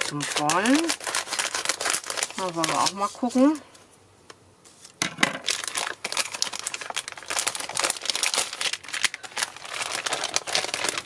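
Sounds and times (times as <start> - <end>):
plastic bags crinkling: 0.0 - 3.6, 5.3 - 11.0.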